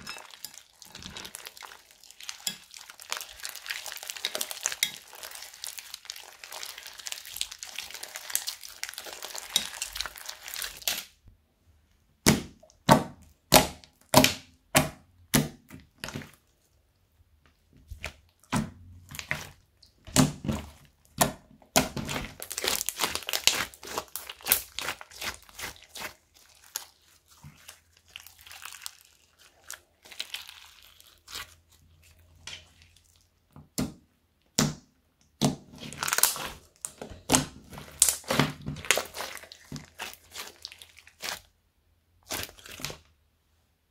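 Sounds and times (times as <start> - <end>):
slime squishing and crackling: 0.0 - 11.2, 12.2 - 16.6, 17.5 - 34.7, 35.3 - 41.6, 42.2 - 43.2.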